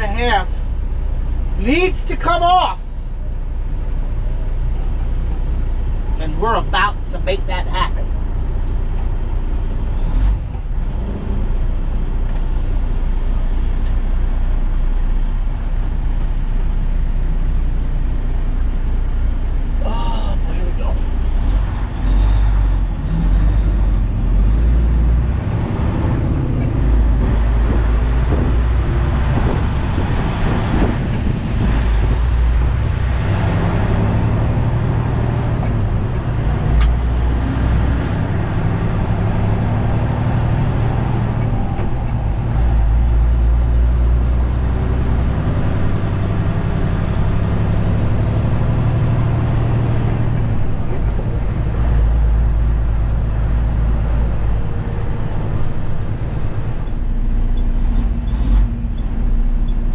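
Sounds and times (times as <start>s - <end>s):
diesel truck engine drone: 0.0s - 59.9s.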